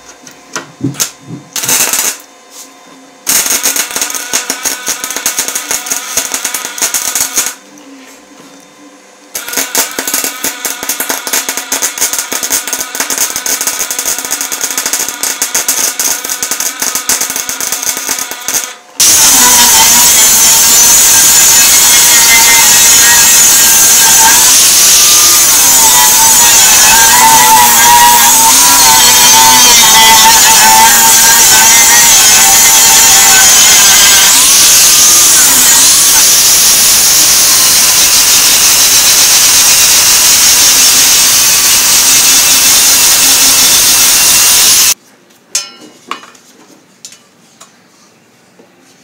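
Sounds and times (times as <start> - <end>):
grinder whining: 0.0 - 2.4, 3.2 - 7.9, 8.5 - 45.0
welder crackling: 0.9 - 2.3, 3.2 - 7.7, 9.3 - 45.0.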